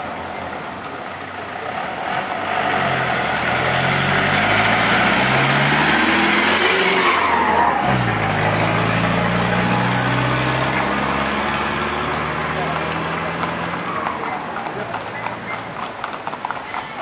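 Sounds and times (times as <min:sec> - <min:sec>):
minibus engine accelerating: 0:00.0 - 0:16.9.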